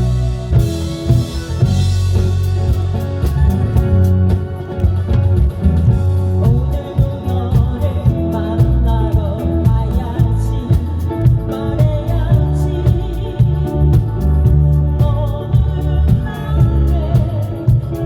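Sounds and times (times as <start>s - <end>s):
drum kit beat: 0.0s - 18.0s
live rock band playing: 0.0s - 18.0s.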